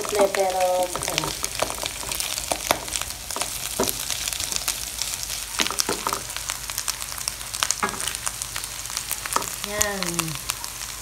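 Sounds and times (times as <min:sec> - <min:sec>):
meat sizzling and popping in pan: 0:00.0 - 0:11.0.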